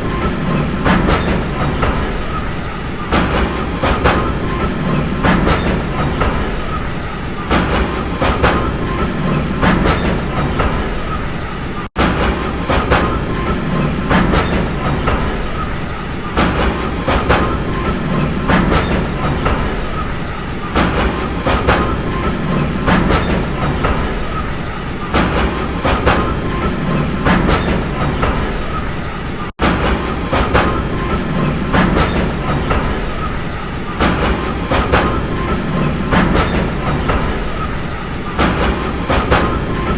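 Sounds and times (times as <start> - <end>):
train rumble: 0.0 - 39.9
wheels clacking over rail joints: 0.0 - 39.9.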